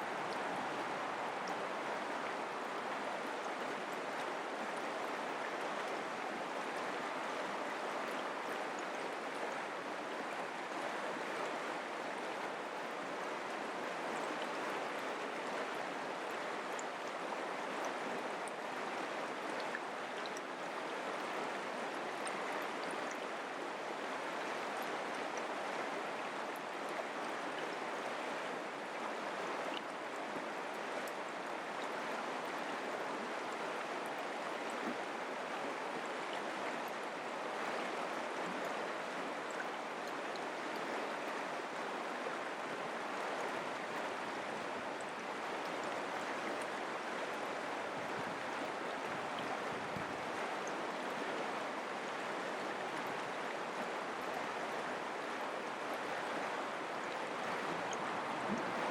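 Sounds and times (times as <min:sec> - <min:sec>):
creek water rushing: 0:00.0 - 0:58.9.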